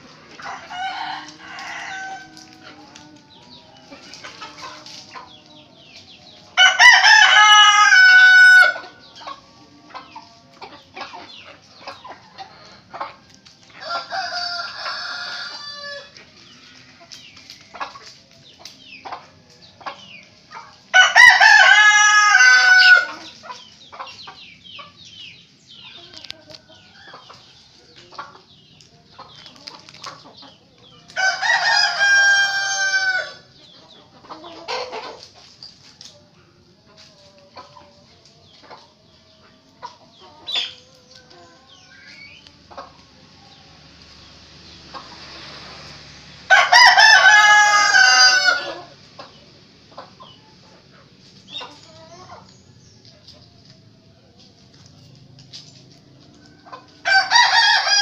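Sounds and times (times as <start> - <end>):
roosters crowing: 0.0 - 58.0.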